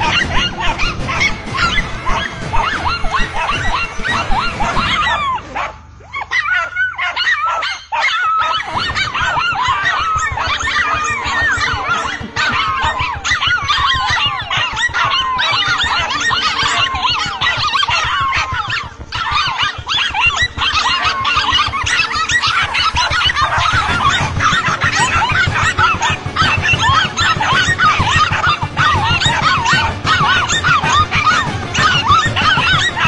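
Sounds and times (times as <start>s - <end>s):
dogs yelping: 0.0s - 33.0s.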